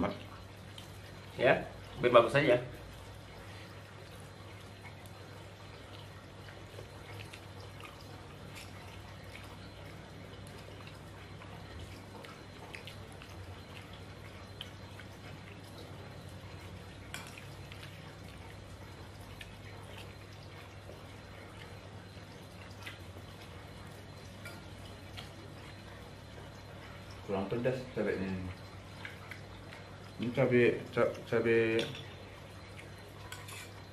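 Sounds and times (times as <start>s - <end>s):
chewing: 2.7s - 33.9s.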